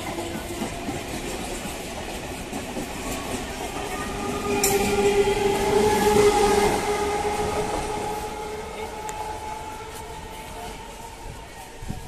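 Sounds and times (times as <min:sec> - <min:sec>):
train passing with steady tone: 0:00.0 - 0:12.0.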